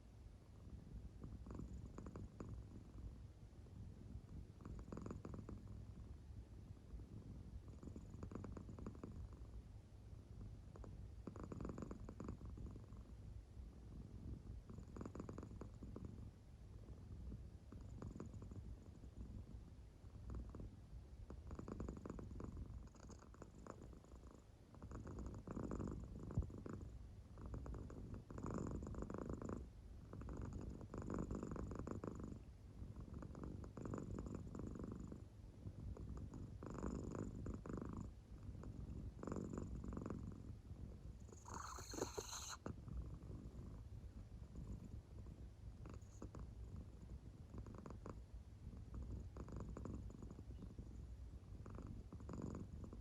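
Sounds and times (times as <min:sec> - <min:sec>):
cat purring softly: 0:00.0 - 0:53.0.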